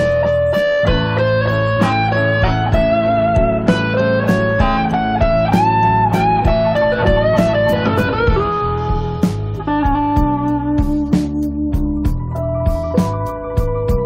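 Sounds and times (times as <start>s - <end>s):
guitar melody: 0.0s - 14.0s
regular beat: 0.0s - 14.0s
steady bass line: 0.0s - 14.0s.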